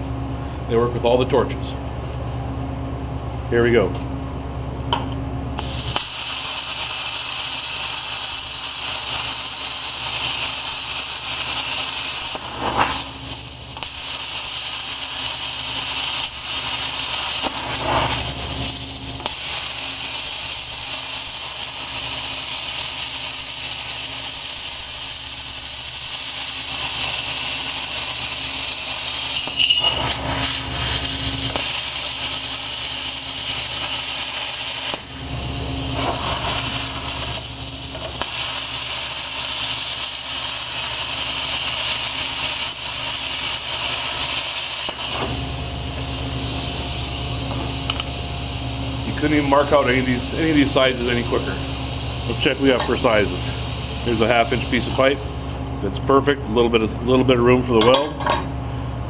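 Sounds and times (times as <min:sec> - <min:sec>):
plasma cutter hissing: 0:05.6 - 0:55.7.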